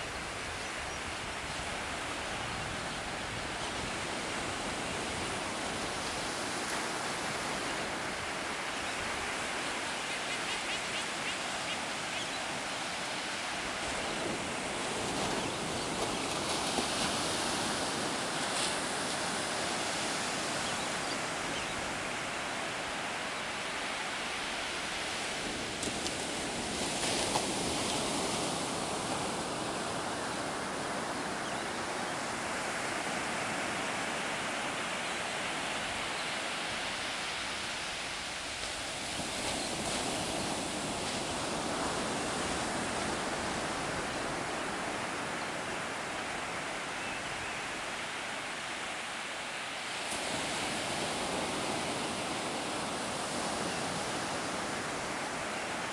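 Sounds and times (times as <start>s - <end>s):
ocean surf on sandy beach: 0.0s - 55.9s.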